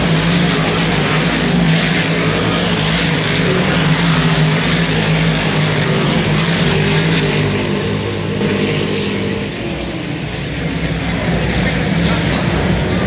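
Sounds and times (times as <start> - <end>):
race car engines roaring past: 0.0 - 13.0.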